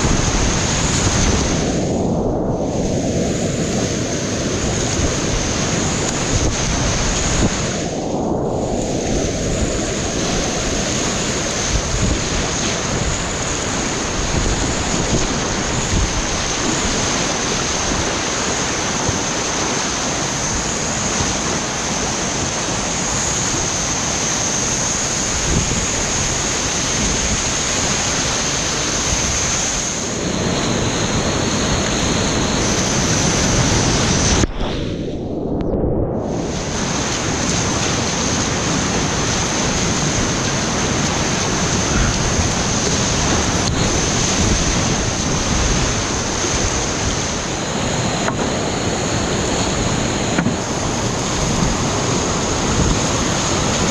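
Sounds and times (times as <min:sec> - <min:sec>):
whitewater rapids roaring: 0:00.0 - 0:35.1, 0:36.3 - 0:53.9.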